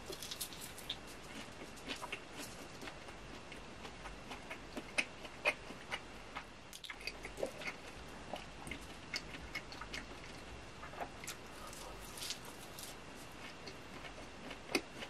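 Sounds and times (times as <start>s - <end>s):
crisp wet chewing: 0.0s - 15.0s.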